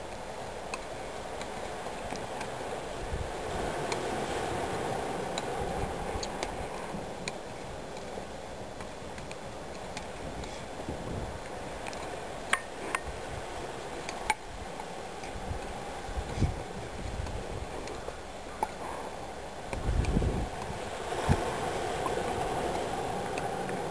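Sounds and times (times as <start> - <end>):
steady hiss: 0.0 - 23.9.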